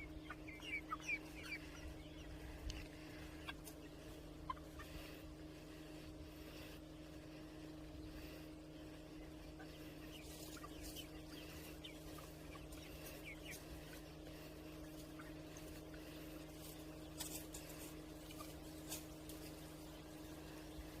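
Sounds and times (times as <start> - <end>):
chickens chirping: 0.0 - 21.0
low hum: 0.0 - 21.0.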